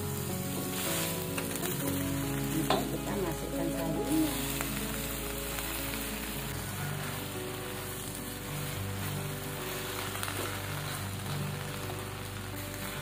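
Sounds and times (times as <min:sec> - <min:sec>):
background music with low notes: 0:00.0 - 0:13.0
greens sizzling in a wok: 0:00.0 - 0:13.0.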